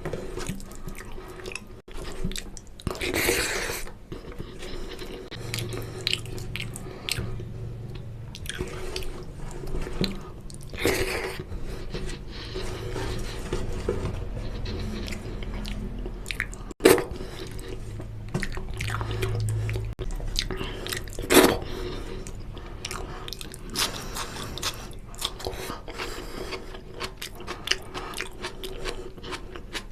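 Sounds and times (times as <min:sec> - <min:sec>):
wet chewing and mouth smacks: 0:00.4 - 0:12.6, 0:14.5 - 0:29.9.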